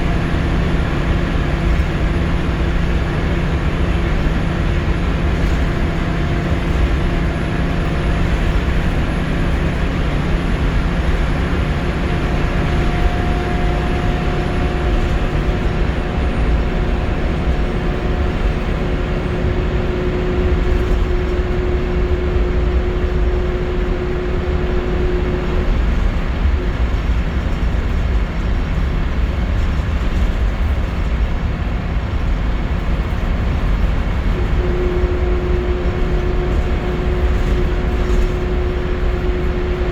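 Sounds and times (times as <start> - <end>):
steady whine: 0.0 - 28.0, 32.8 - 39.9
bus engine and road rumble: 0.0 - 39.9.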